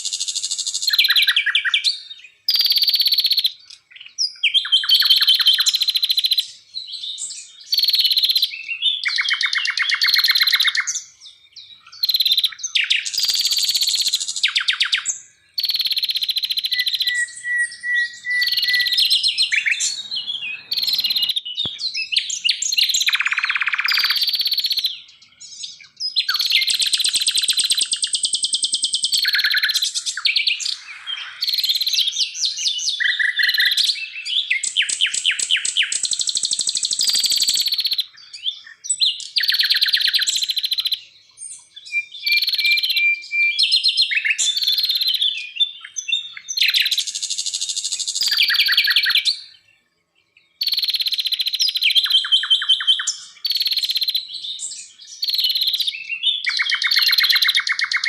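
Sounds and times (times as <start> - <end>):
songbird trills and whistles: 0.0 - 58.0.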